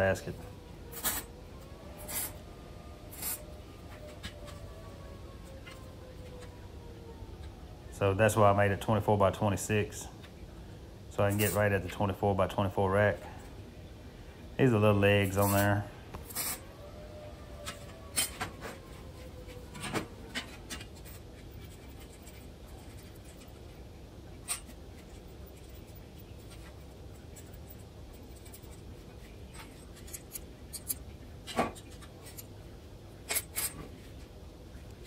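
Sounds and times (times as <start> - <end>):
low shop hum: 0.0 - 35.0.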